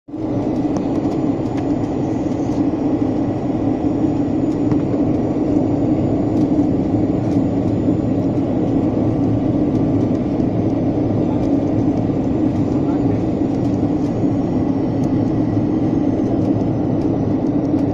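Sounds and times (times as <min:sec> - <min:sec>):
jet engine drone in cabin: 0:00.1 - 0:17.9.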